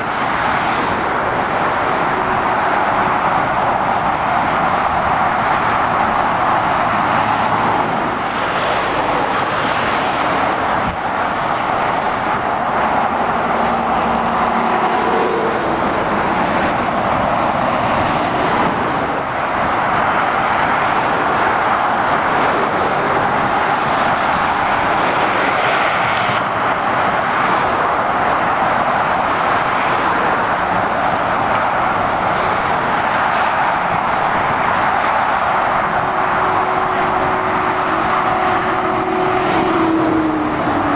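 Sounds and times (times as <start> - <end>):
motorway traffic noise: 0.0 - 40.9.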